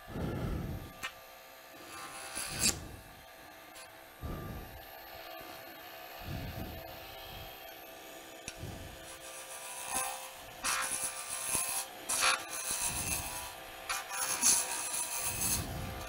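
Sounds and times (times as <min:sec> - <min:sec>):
wood lathe humming: 0:00.0 - 0:16.0.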